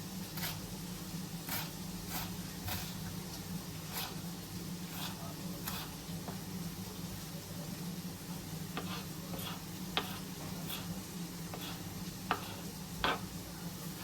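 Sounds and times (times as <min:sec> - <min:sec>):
bacon sizzling in a pan: 0:00.0 - 0:14.0.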